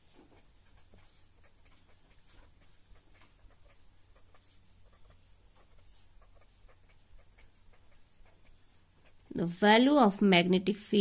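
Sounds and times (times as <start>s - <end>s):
pen scratching on paper: 0.0s - 10.2s.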